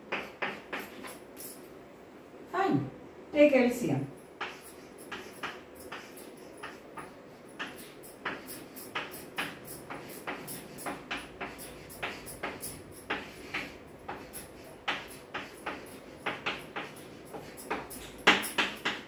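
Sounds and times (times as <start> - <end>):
chalk scratching on blackboard: 0.1 - 1.2, 4.4 - 19.0.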